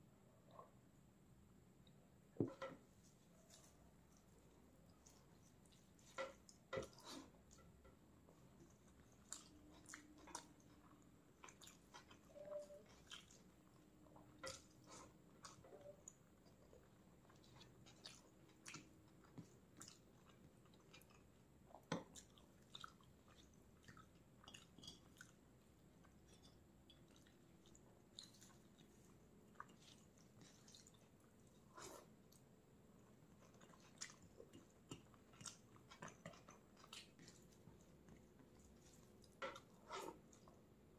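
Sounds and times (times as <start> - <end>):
chewing food: 2.6 - 40.8.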